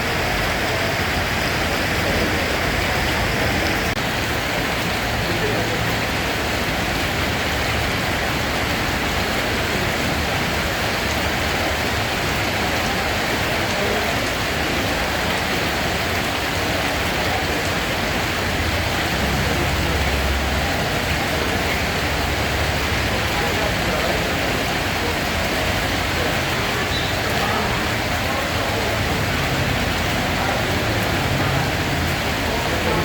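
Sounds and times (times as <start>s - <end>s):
steady rain hissing: 0.0s - 33.0s.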